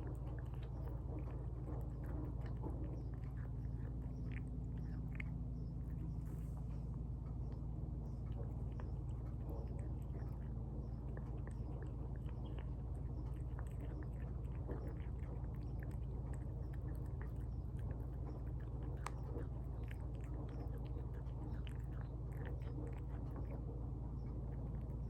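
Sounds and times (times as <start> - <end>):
cat chewing: 0.0 - 25.0
low hum: 0.0 - 25.0.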